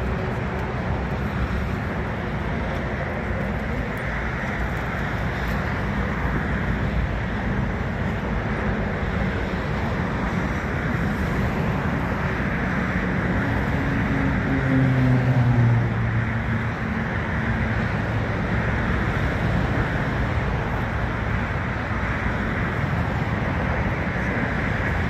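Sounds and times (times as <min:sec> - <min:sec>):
distant jet airliners taxiing: 0:00.0 - 0:25.0.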